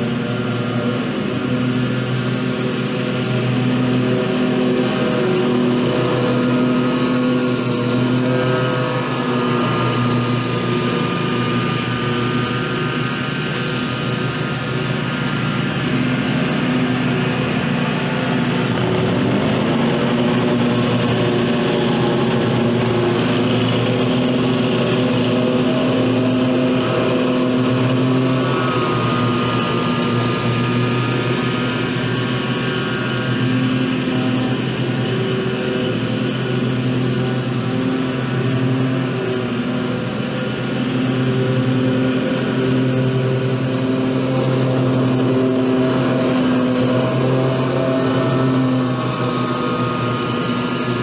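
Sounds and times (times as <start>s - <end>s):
riding mower engines humming: 0.0s - 51.0s.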